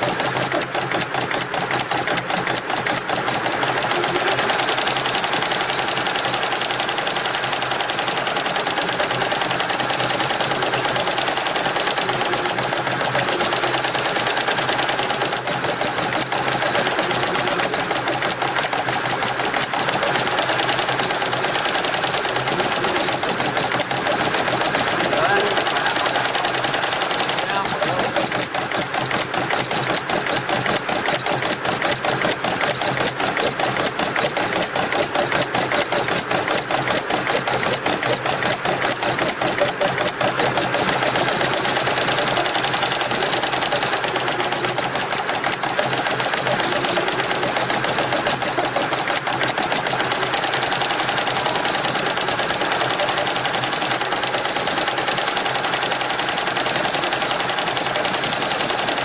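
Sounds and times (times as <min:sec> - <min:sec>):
embroidery machine clatter: 0:00.0 - 0:59.0.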